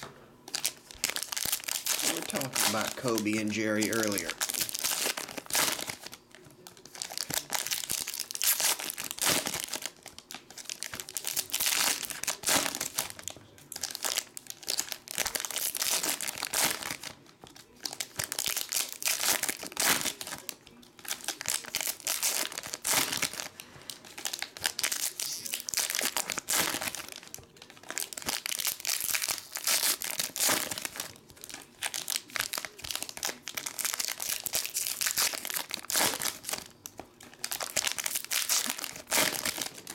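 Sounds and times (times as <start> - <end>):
foil wrappers crinkling and tearing: 0.0 - 39.9.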